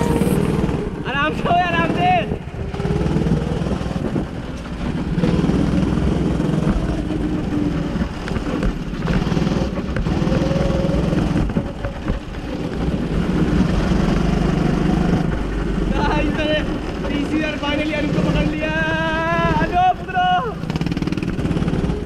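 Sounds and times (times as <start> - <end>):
go-kart engine revving: 0.0 - 22.0.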